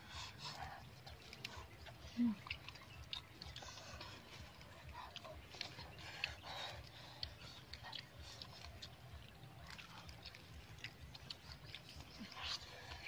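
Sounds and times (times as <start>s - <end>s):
people chewing fish: 0.0s - 13.0s.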